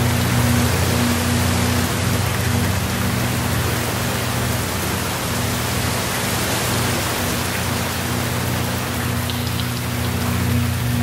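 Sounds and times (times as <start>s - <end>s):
low steady hum: 0.0s - 11.0s
steady rain: 0.0s - 11.0s.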